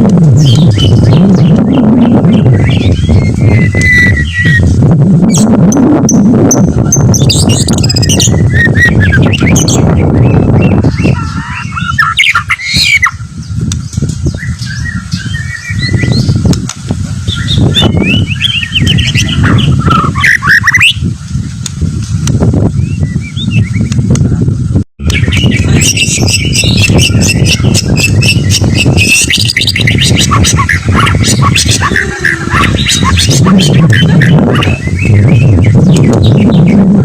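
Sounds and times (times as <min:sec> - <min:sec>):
loud low rumbling: 0:00.0 - 0:37.0
bird singing whistles and trills: 0:00.3 - 0:04.7, 0:05.3 - 0:16.5, 0:17.3 - 0:21.0, 0:22.7 - 0:24.0, 0:25.0 - 0:36.9.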